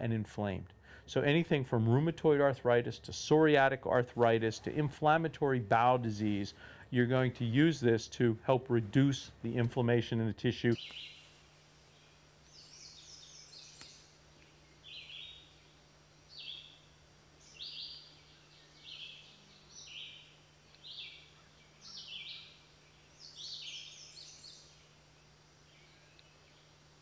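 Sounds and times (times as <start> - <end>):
birds chirping faintly: 0.0 - 27.0
steady low hum: 0.0 - 27.0.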